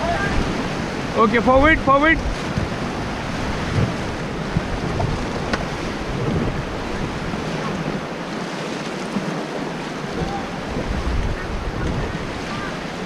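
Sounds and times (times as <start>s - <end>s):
wind buffeting microphone: 0.0s - 8.4s, 9.0s - 13.0s
river rapids rushing: 0.0s - 13.0s.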